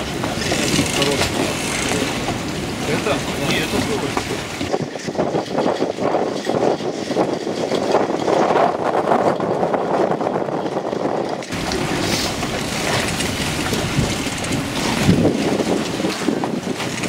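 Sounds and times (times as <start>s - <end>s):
deep buffeting rumble: 0.0s - 17.0s
water rushing around boats: 0.0s - 17.0s
wind gusting across microphone: 0.0s - 17.0s.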